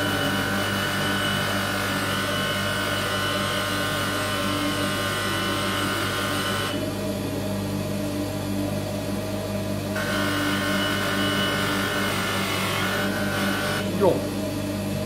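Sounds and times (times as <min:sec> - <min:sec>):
grinding wheel motor hum: 0:00.0 - 0:15.0.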